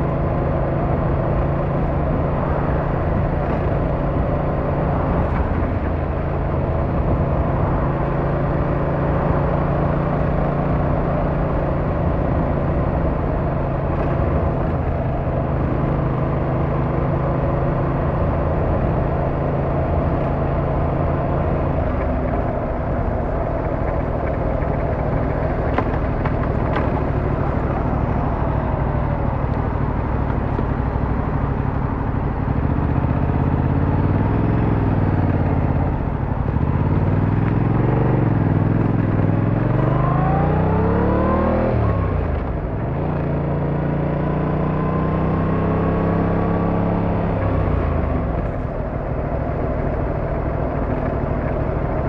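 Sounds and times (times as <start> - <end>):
car engine accelerating: 0.0 - 52.0
road noise: 0.0 - 52.0.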